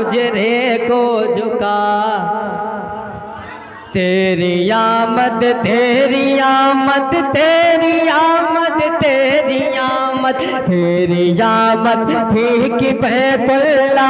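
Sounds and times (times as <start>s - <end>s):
man singing: 0.0s - 3.2s, 3.9s - 14.0s.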